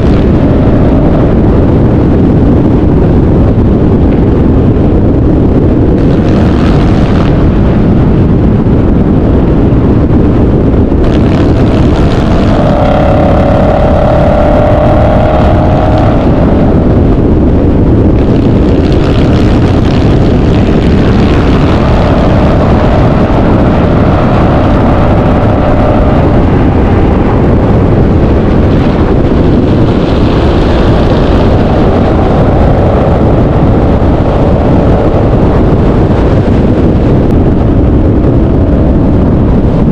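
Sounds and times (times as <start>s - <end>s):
loud car engine exhaust: 0.0s - 39.9s.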